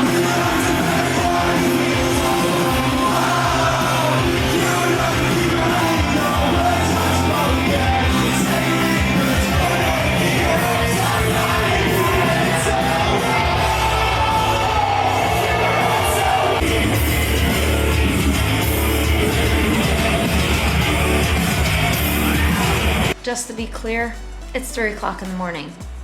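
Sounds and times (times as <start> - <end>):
person singing and yelling: 0.0 - 23.2
emo rock music: 0.0 - 26.0.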